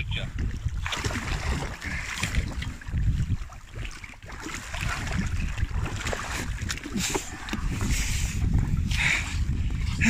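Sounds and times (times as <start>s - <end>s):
water splashing against boat: 0.0s - 10.0s
wind buffeting microphone: 0.0s - 10.0s.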